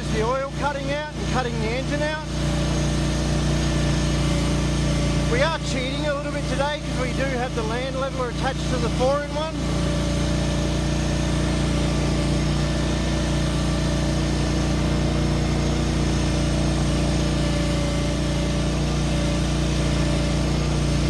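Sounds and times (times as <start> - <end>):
skid steer engine under load: 0.0 - 21.0.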